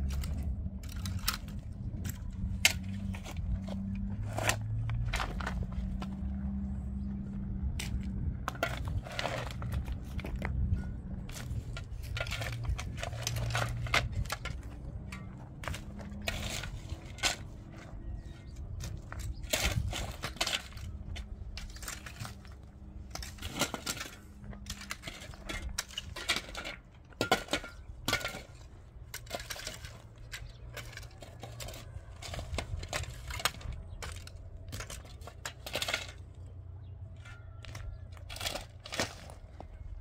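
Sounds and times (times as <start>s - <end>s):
shovel and rake scraping gravel: 0.0s - 6.3s, 7.8s - 36.4s, 37.2s - 40.0s.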